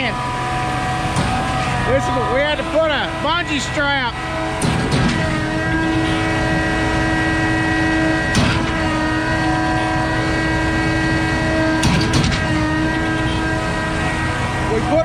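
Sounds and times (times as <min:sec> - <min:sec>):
concrete pump droning: 0:00.0 - 0:15.0.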